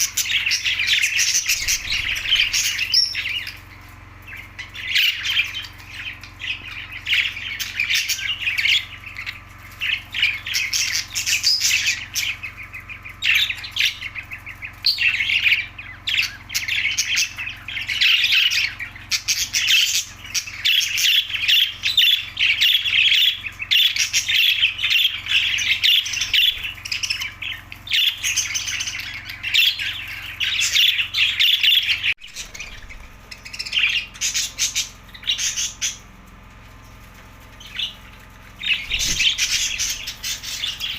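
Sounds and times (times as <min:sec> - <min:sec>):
budgerigars chattering: 0:00.0 - 0:36.1, 0:37.6 - 0:40.9.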